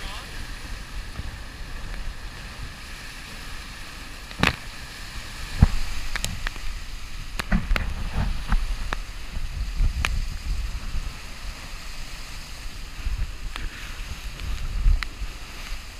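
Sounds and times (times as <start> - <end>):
deep buffeting rumble: 0.0 - 15.9
rushing water: 0.0 - 15.9
wind: 0.0 - 15.9.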